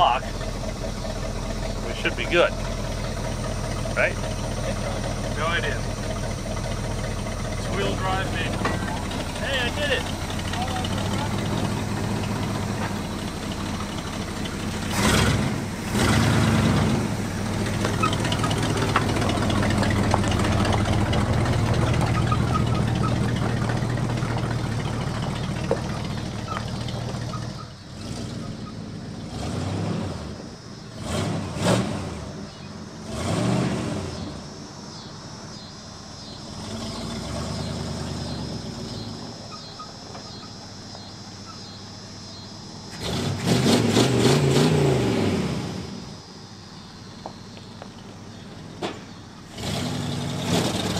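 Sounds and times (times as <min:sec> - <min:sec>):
truck engine backfiring: 0:00.0 - 0:50.9
truck engine revving: 0:00.0 - 0:50.9.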